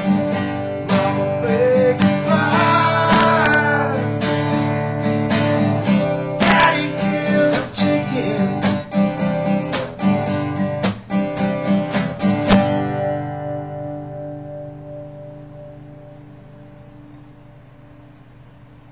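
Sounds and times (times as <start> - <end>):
acoustic guitar strumming: 0.0 - 18.2.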